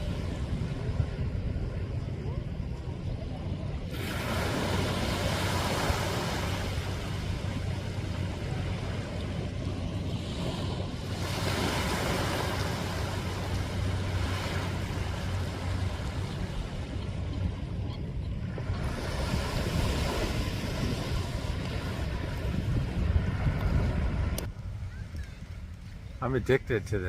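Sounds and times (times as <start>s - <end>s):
sea waves washing ashore: 0.0s - 27.0s
wind rumbling on microphone: 0.0s - 27.0s.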